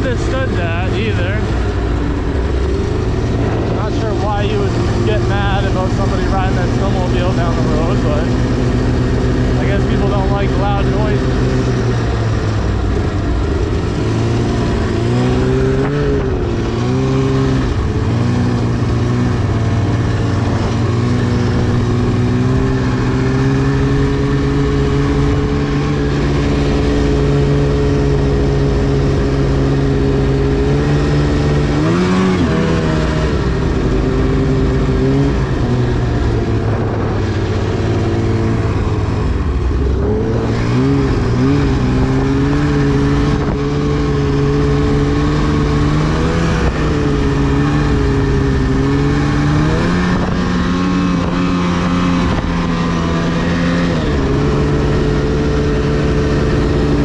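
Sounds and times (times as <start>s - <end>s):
snowmobile engine running hard: 0.0s - 57.0s.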